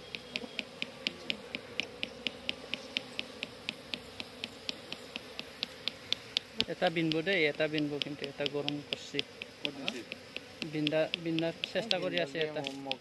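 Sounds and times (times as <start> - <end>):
bees humming: 0.0 - 13.0
high ticking: 0.0 - 13.0.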